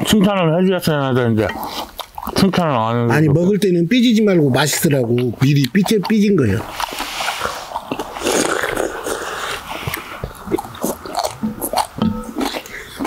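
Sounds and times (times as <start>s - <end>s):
chewing: 1.0s - 3.2s, 4.6s - 13.0s
people slurping soup: 1.1s - 3.1s, 4.5s - 13.0s.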